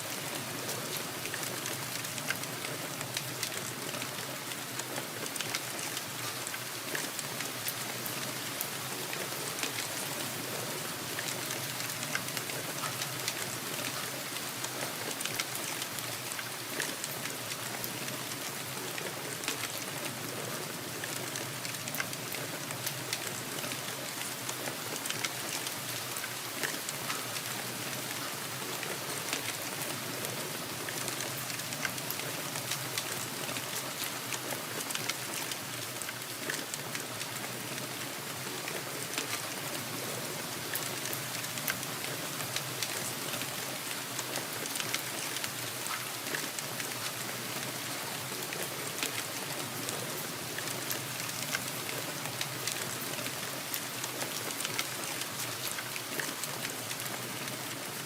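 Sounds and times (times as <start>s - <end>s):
steady rain hiss: 0.0s - 58.0s
raindrop ticks: 0.1s - 57.9s.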